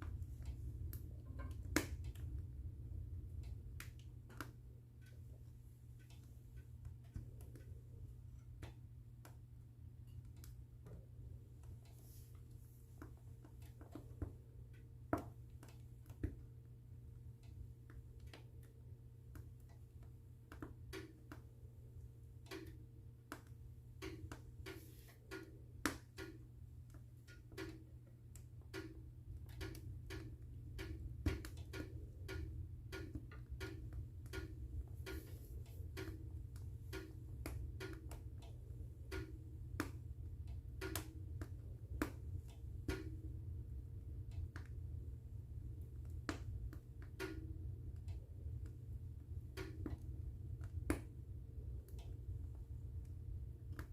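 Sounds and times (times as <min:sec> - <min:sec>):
wood fire crackling and popping: 0:00.0 - 0:12.4, 0:13.0 - 0:53.9
low steady rumble: 0:00.0 - 0:53.9.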